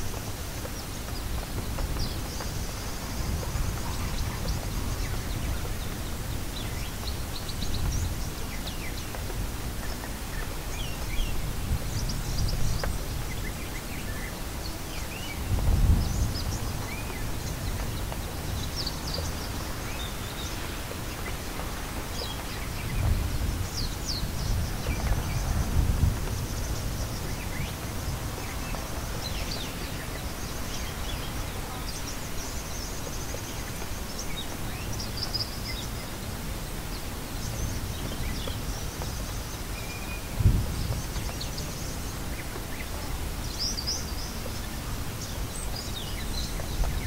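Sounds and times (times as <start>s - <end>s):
steady background hiss: 0.0s - 47.0s
birds chirping: 0.1s - 47.0s.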